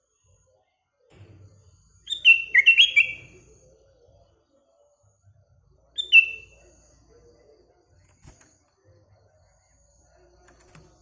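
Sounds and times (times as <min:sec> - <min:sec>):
faint low background sounds: 0:00.0 - 0:11.0.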